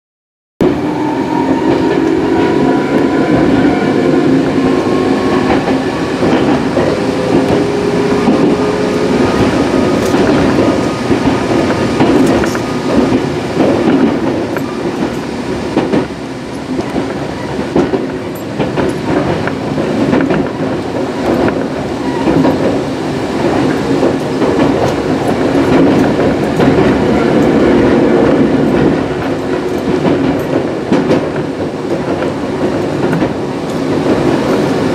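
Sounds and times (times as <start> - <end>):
train rumble and rail clatter: 0.6 - 34.9.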